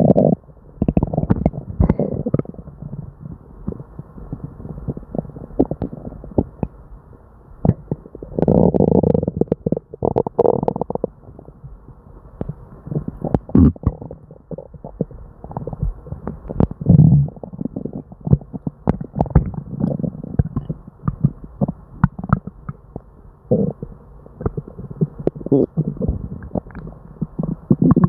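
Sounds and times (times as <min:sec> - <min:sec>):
stomach gurgling and rumbling: 0:00.0 - 0:28.0.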